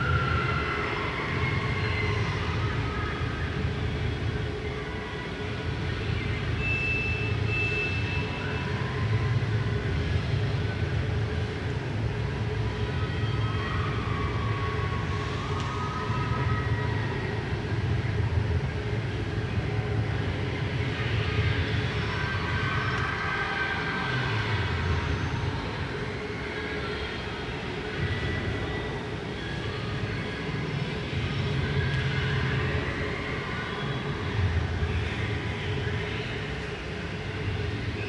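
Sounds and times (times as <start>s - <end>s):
crowd noise: 0.0s - 38.0s.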